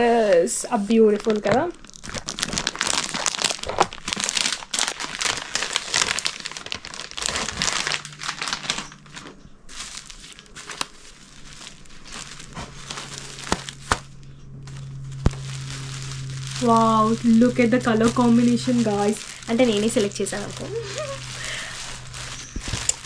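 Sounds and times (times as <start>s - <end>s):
plastic packaging crinkling: 0.7s - 23.0s.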